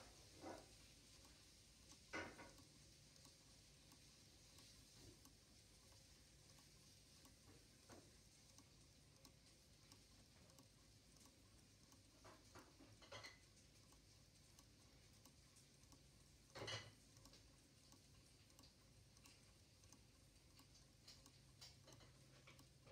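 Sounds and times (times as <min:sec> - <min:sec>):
clock ticking faintly: 0:00.0 - 0:22.9.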